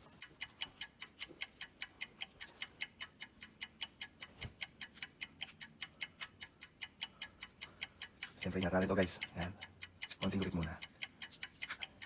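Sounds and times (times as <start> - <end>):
rapid sharp ticking: 0.0 - 12.0.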